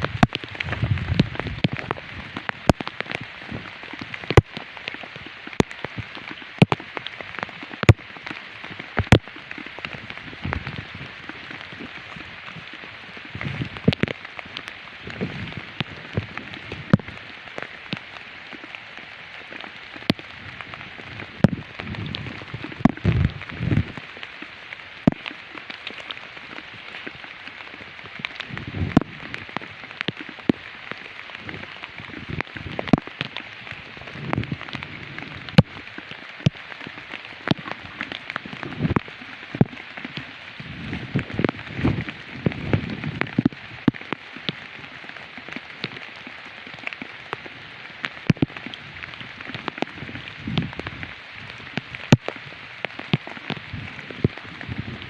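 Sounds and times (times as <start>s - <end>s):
rain patter: 0.0s - 55.0s
raindrops ticking close by: 0.0s - 55.0s.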